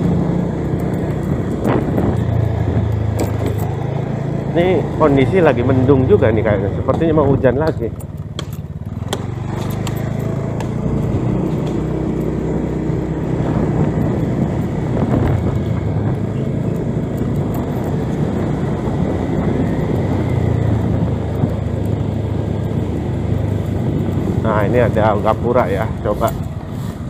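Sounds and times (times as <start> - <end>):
road and wind noise: 0.0 - 27.0
scooter engine running: 0.0 - 27.0.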